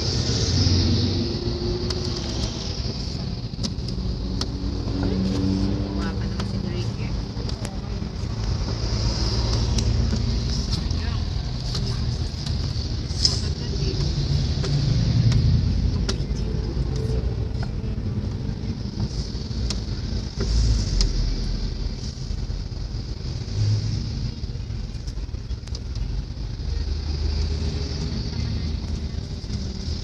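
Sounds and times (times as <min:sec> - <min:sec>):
road noise inside vehicle: 0:00.0 - 0:30.0
trucks passing: 0:00.0 - 0:30.0.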